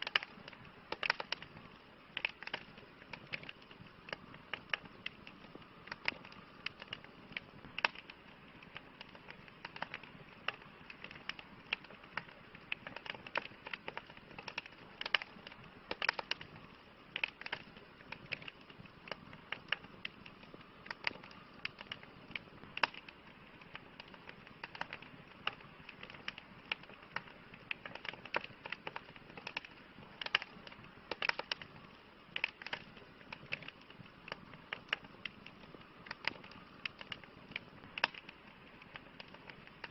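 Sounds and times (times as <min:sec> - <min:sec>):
campfire crackling: 0:00.0 - 0:39.9
soft steady hiss: 0:00.0 - 0:39.9.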